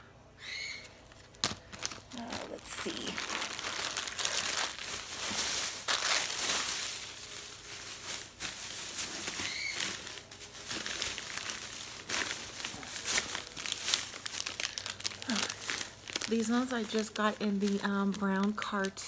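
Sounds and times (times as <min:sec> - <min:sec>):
plastic bag crinkling and rustling: 0:00.7 - 0:19.0.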